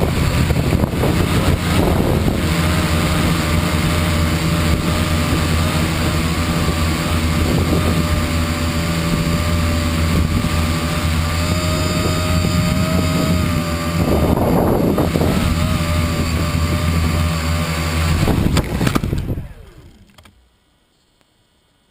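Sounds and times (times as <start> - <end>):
drone motors whining: 0.0 - 20.5.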